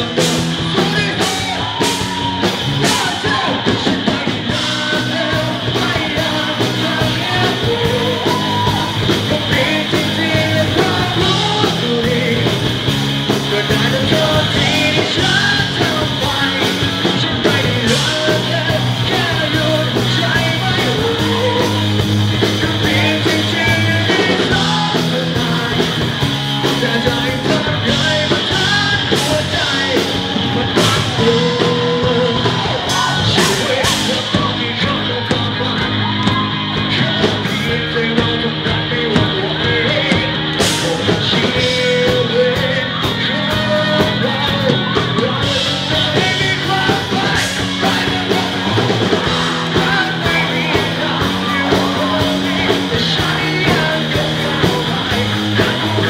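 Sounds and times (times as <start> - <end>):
audience singing and shouting: 0.0 - 56.0
live rock band playing: 0.0 - 56.0
man singing lead vocals: 0.0 - 56.0.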